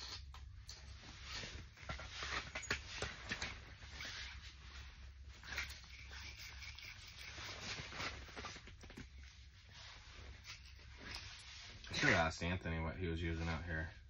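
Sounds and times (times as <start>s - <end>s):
fishing tackle and clothing rustling: 0.8s - 12.4s.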